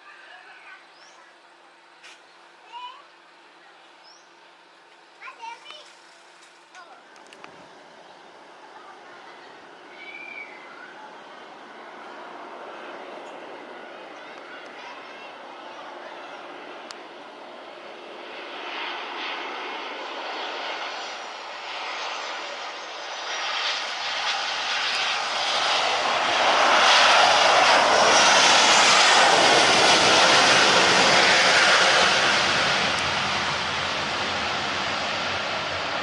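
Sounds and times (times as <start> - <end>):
airliner engines passing: 0.0 - 36.0.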